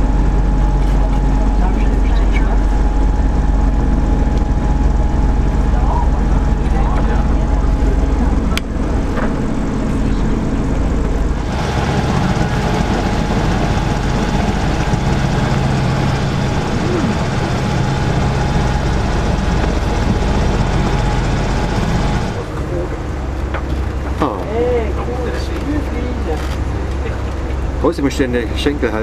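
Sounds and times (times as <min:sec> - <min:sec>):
airship engines and propellers droning: 0:00.0 - 0:29.0.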